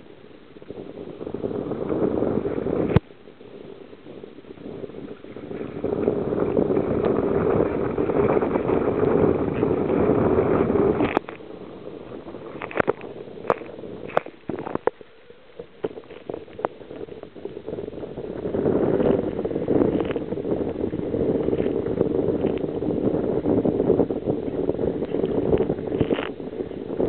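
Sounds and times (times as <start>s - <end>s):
sea water rushing: 0.0s - 27.0s.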